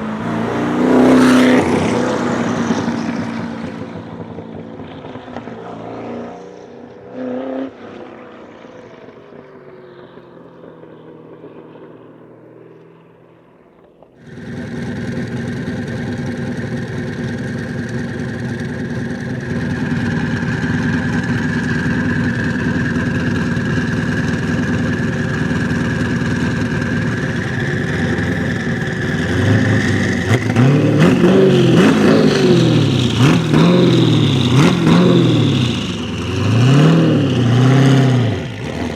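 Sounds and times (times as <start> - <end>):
car engine revving: 0.0 - 9.0, 14.2 - 38.9.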